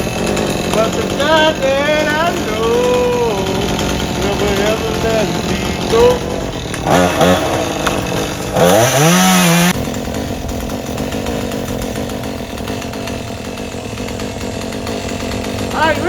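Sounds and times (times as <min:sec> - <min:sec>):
chainsaw engine revving and idling: 0:00.0 - 0:16.0.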